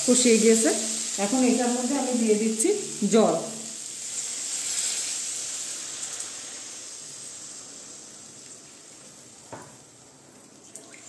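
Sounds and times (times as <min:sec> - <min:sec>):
spices sizzling in hot oil: 0:00.0 - 0:10.6.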